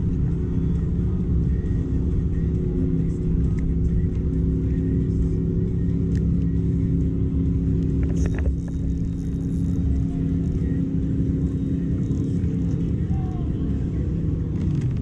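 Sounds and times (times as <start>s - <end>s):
motorboat engine drone: 0.0s - 15.0s.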